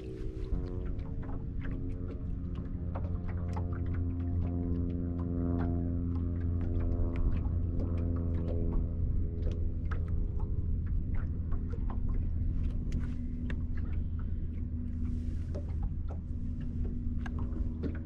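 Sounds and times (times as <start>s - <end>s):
electric trolling motor humming: 0.0s - 18.0s
small ticks and knocks: 0.4s - 18.0s.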